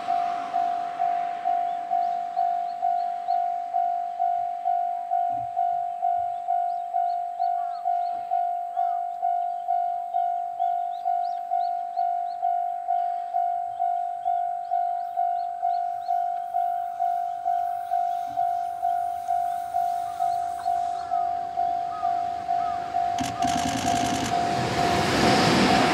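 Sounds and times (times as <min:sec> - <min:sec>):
level-crossing warning bell ringing: 0:00.0 - 0:25.9
faint birds chirping: 0:01.2 - 0:24.4.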